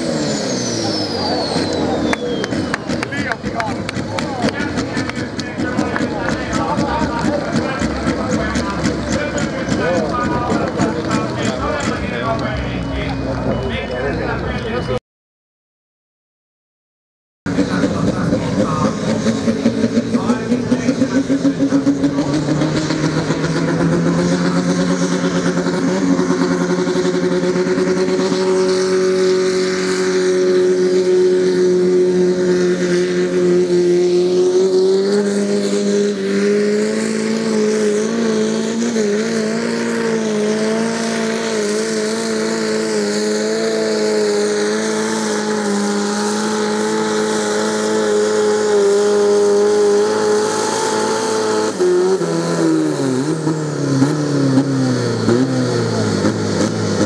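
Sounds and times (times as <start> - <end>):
tractor engine at high revs: 0.0 - 14.8, 17.5 - 57.0.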